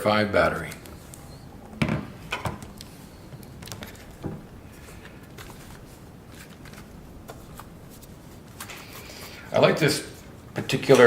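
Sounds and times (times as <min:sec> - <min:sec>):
room hiss: 0:00.0 - 0:11.0
faint clicks and knocks of handling: 0:00.6 - 0:09.5.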